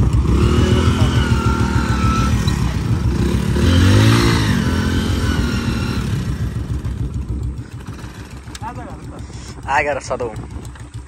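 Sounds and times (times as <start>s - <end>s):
motorcycle engine revving: 0.0s - 11.0s
motorcycle engines labouring: 0.0s - 11.0s.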